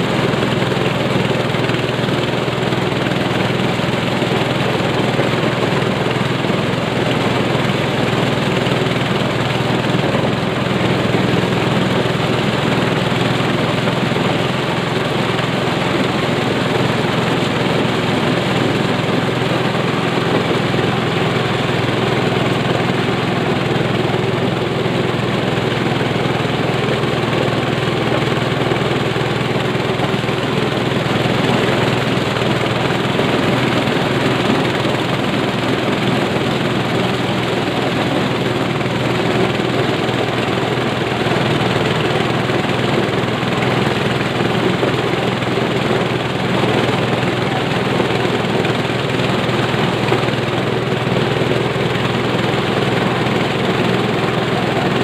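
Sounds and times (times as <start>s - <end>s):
corn sheller mechanical din: 0.0s - 55.0s
low engine hum: 0.0s - 55.0s.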